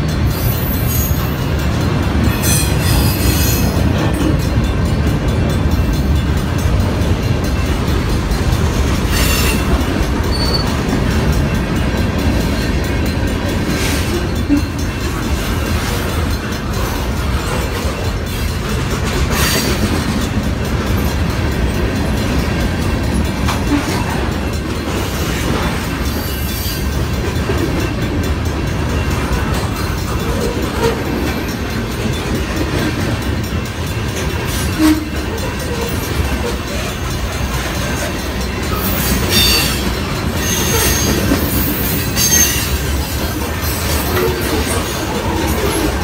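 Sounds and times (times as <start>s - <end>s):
clickety-clack over rail joints: 0.0s - 46.0s
freight train wheels rumbling: 0.0s - 46.0s.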